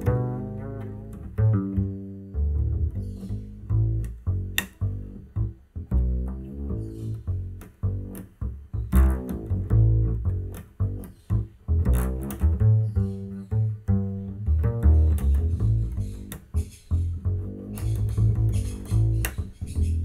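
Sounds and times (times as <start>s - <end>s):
plucked double bass: 0.0s - 20.0s.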